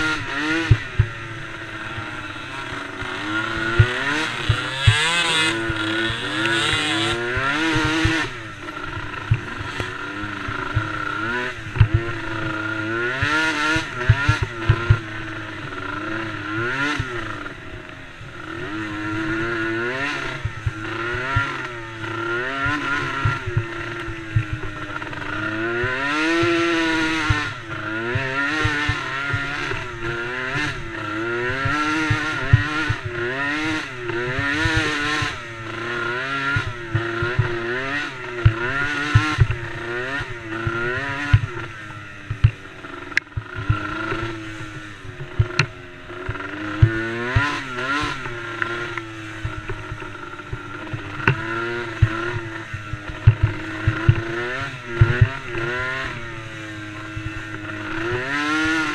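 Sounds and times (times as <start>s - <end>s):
small quad engine revving: 0.0s - 58.9s.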